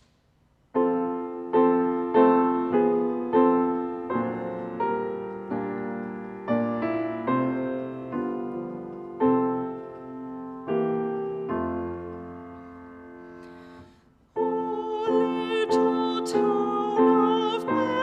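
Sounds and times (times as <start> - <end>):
solo piano slow chords: 0.7 - 18.0.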